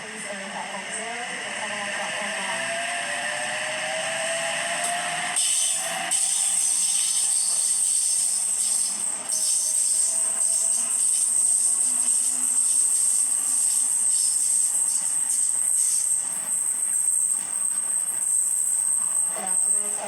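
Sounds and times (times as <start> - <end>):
electric train high-pitched whine: 0.0 - 20.0.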